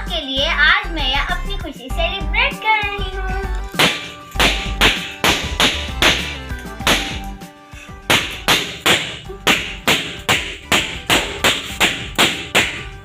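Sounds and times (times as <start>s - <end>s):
music with sharp regular beat: 1.7s - 13.0s.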